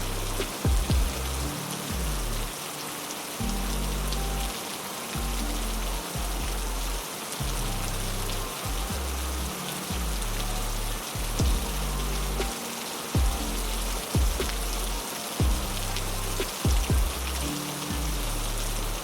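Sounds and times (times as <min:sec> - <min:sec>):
heavy rain: 0:00.0 - 0:19.0
low sustained background music: 0:00.0 - 0:19.0.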